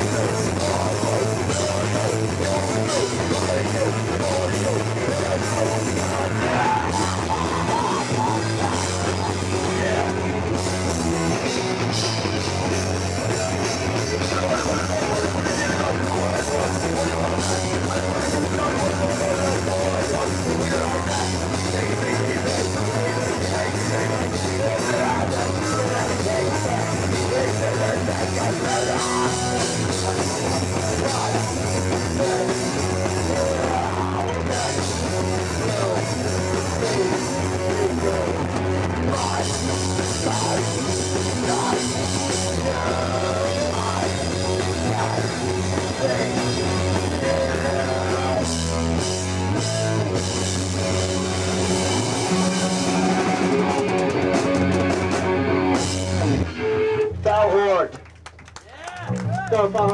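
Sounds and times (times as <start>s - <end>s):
punk band playing live: 0.0s - 59.9s.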